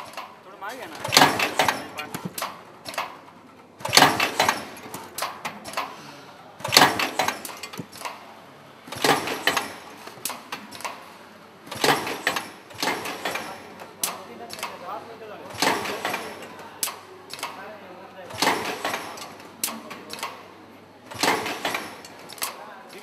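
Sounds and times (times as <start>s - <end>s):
machine clicking: 0.0s - 6.0s, 6.6s - 8.3s, 8.9s - 20.5s, 21.1s - 23.0s
machine metallic clattering: 0.0s - 6.0s, 6.6s - 8.3s, 8.9s - 17.6s, 18.3s - 20.4s, 21.1s - 23.0s.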